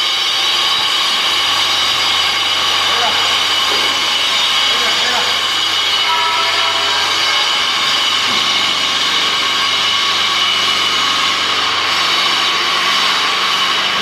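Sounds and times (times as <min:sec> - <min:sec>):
high machine whine: 0:00.0 - 0:14.0
machinery hissing: 0:00.5 - 0:14.0.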